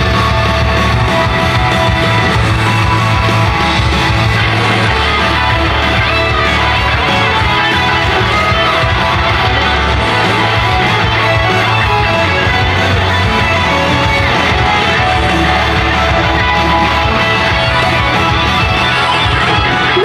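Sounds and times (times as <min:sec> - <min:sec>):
pop-rock song: 0:00.0 - 0:20.0
steady bass: 0:00.0 - 0:20.0
strummed electric guitar: 0:00.0 - 0:20.0.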